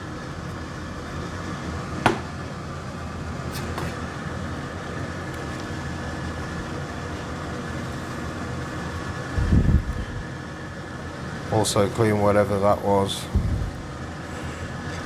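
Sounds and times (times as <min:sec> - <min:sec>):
whir of moving air: 0:00.0 - 0:12.1, 0:13.2 - 0:15.0.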